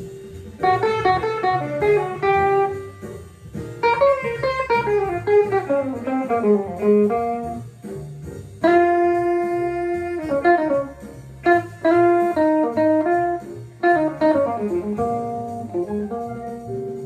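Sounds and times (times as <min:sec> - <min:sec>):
low bass line: 0:00.0 - 0:17.0.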